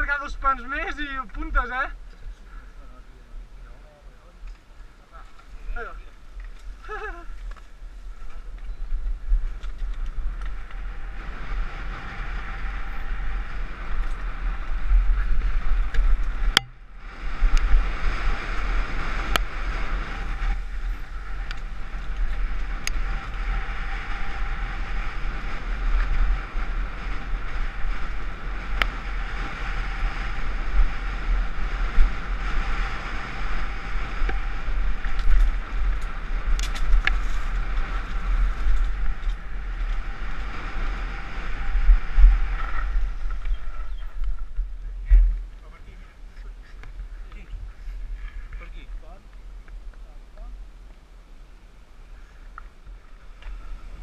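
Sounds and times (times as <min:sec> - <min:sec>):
wind buffeting microphone: 0:00.0 - 0:54.0
bike rattling: 0:04.6 - 0:50.1.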